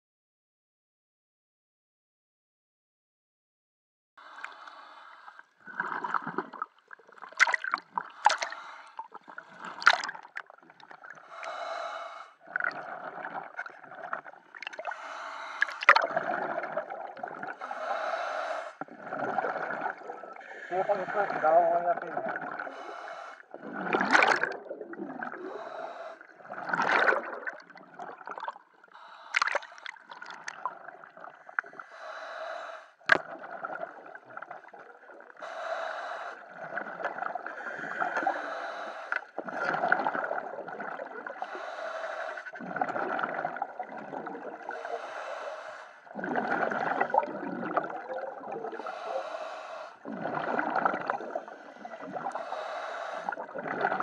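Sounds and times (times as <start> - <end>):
diver breathing through regulator: 4.2 - 6.5, 7.6 - 10.4, 11.1 - 21.8, 22.4 - 33.2, 35.3 - 54.0.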